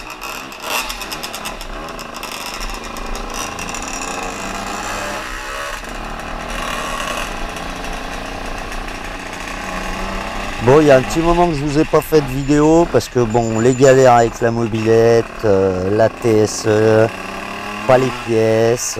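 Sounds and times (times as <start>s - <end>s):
moped engines buzzing: 0.0s - 18.9s.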